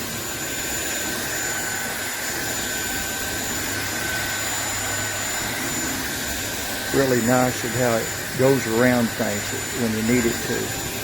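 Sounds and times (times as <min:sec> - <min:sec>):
stick vacuum cleaner running: 0:00.0 - 0:11.0.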